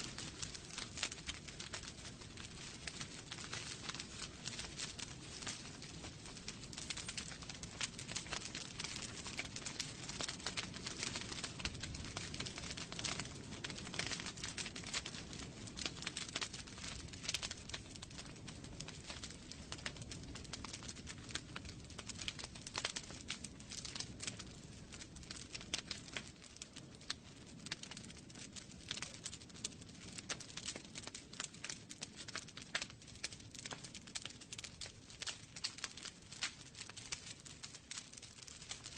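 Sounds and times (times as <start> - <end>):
flames rushing: 0.0 - 38.9
logs crackling and popping: 0.0 - 38.9.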